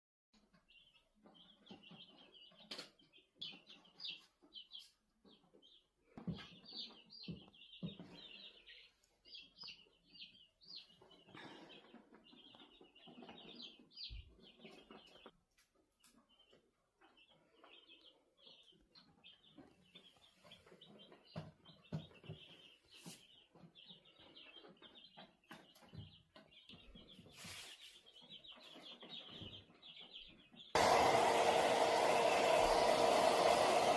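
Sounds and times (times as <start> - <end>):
faint birds chirping: 0.4 - 33.9.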